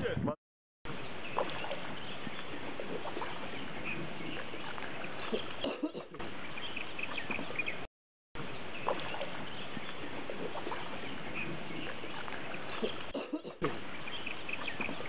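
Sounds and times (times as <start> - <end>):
paddles splashing in water: 0.9 - 15.0
small birds chirping: 0.9 - 15.0.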